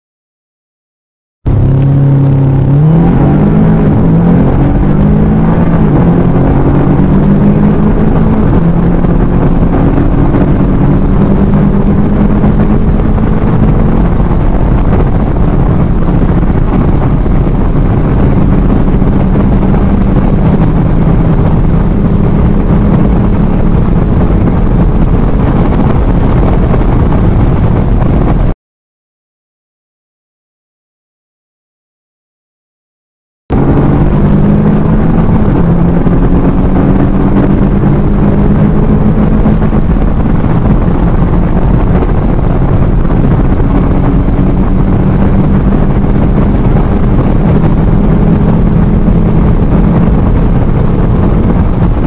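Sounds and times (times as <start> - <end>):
car engine accelerating hard: 1.5 - 28.5, 33.5 - 52.0.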